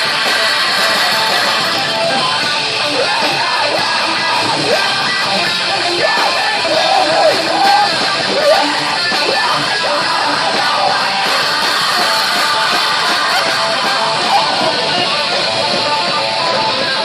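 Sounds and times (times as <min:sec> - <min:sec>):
distorted electric guitars: 0:00.0 - 0:17.0
heavy metal band playing live: 0:00.0 - 0:17.0.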